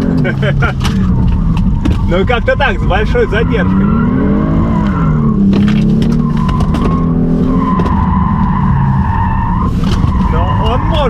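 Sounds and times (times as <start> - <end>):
car engine pulling under power: 0.0 - 10.9
tyres squealing: 0.8 - 11.0.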